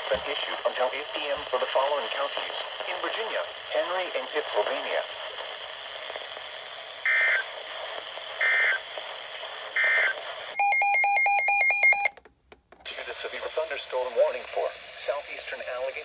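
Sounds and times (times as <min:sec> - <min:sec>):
radio hiss: 0:00.0 - 0:10.6, 0:12.9 - 0:16.0.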